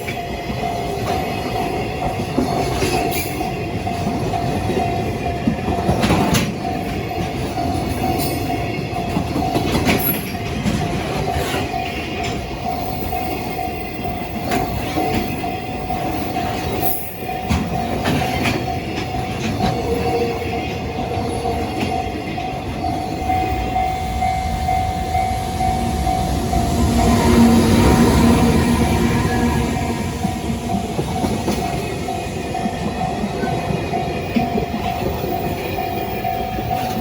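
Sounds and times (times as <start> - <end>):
crossing warning alarm ringing: 0.0 - 37.0
train wheels rumbling: 0.0 - 37.0.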